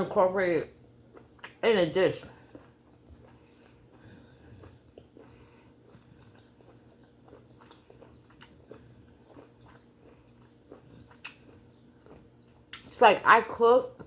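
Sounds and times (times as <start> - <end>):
person chewing: 0.8 - 13.0.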